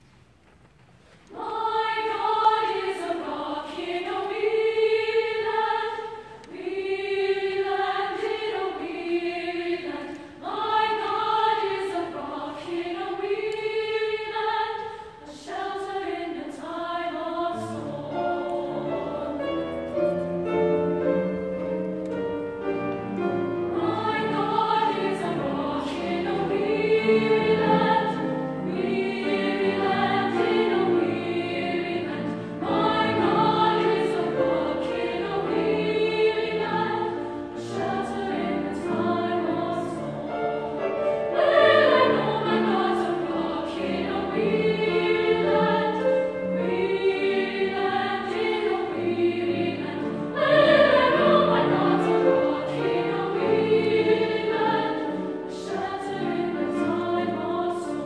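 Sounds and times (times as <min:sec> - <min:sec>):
women's choir singing: 0:01.2 - 0:58.0.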